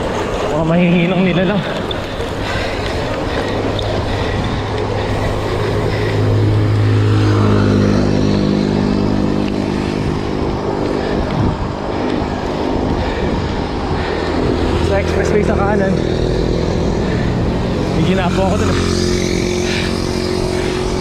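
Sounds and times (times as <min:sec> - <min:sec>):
road noise: 0:00.0 - 0:21.0
rushing wind: 0:00.0 - 0:21.0
vehicle engine running: 0:00.0 - 0:21.0.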